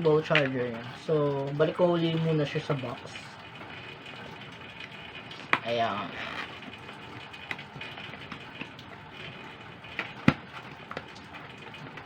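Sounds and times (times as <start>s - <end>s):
small clicks taps and rustles: 0.0s - 12.0s.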